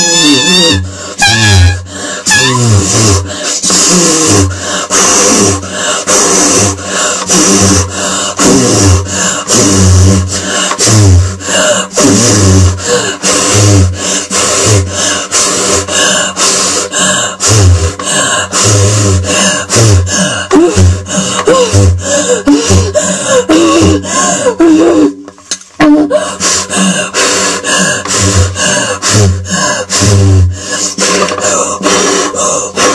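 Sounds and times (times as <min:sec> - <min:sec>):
woman's rhythmic vocal sounds: 0:02.2 - 0:32.9.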